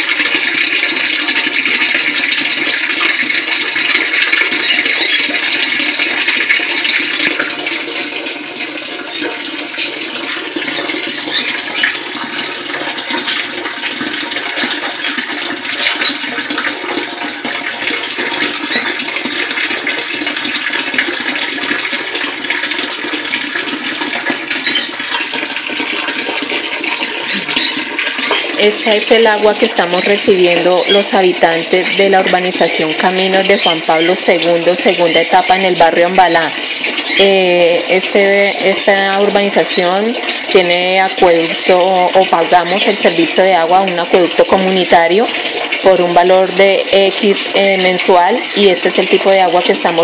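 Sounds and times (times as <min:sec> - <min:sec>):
tap water splashing into tank: 0:00.0 - 0:50.0.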